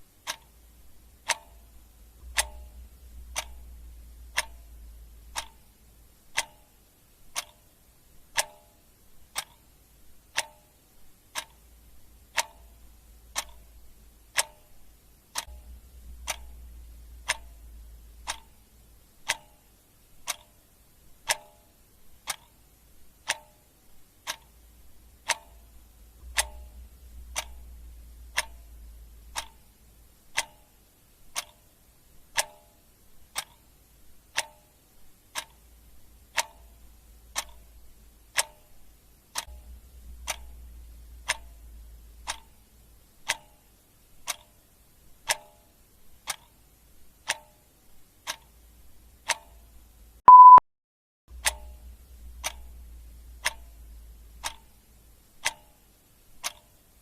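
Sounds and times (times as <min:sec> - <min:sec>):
clock ticking: 0:00.0 - 0:50.6, 0:51.3 - 0:57.0.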